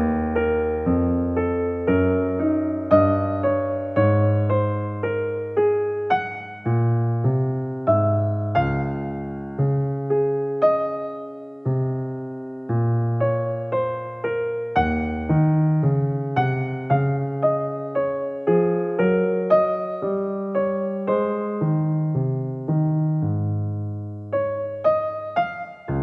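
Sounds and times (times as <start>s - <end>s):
electric piano playing slow chords: 0.0s - 26.0s.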